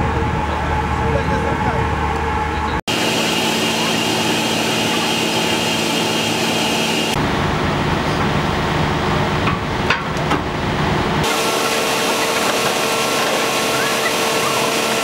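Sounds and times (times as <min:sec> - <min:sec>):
ship machinery humming: 0:00.0 - 0:15.0.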